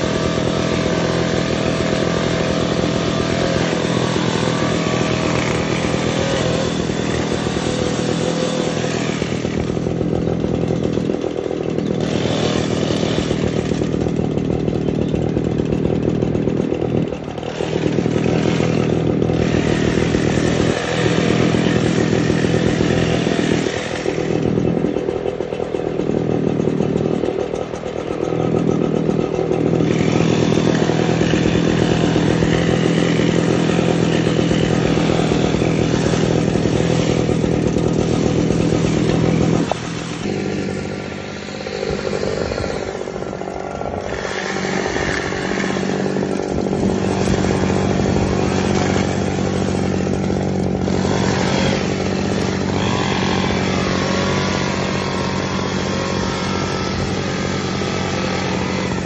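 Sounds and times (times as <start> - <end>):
hedge trimmer engine running: 0.0 - 59.0.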